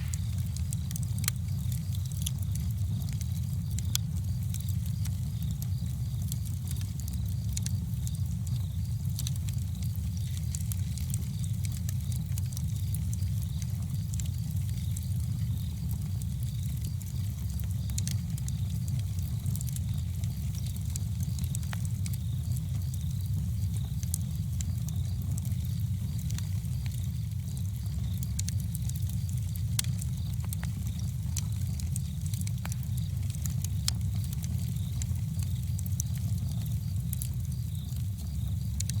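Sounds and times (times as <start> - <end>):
campfire crackling and popping: 0.0 - 39.0
low fire rumble: 0.0 - 39.0.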